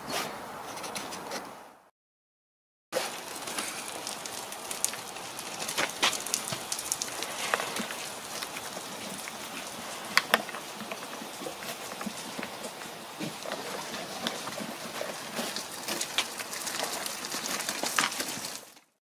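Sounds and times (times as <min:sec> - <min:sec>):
crackling hiss: 0:03.0 - 0:18.8.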